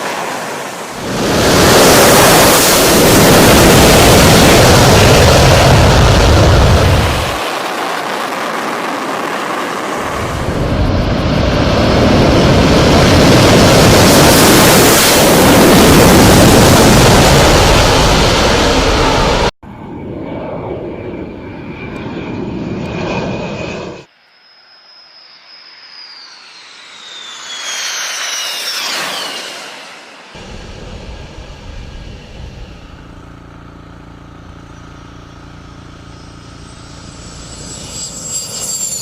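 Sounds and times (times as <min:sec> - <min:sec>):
fighter jet roar: 0:00.0 - 0:24.1, 0:24.8 - 0:39.0
jet engine high whine: 0:00.0 - 0:39.0.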